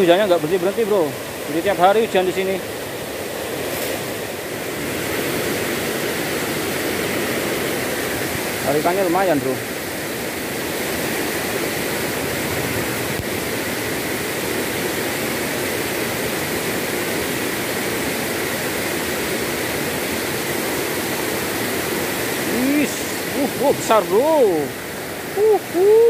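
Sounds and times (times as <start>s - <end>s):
river rushing over rocks: 0.0s - 26.0s.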